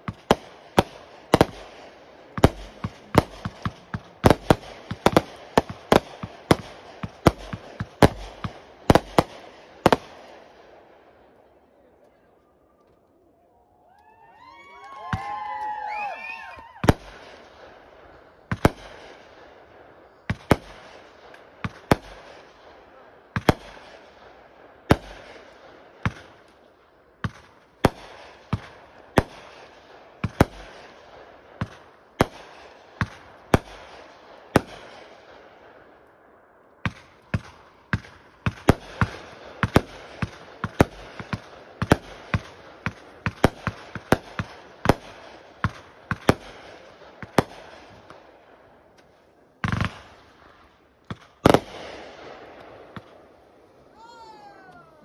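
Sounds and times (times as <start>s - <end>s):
fireworks bursting: 0.0s - 13.1s, 14.1s - 36.1s, 36.7s - 55.0s.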